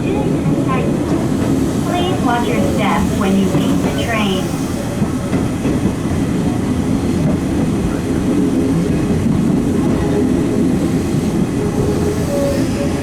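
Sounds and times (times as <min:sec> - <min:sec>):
clickety-clack of track joints: 0:00.0 - 0:12.7
train wheels rumbling on rails: 0:00.0 - 0:13.0.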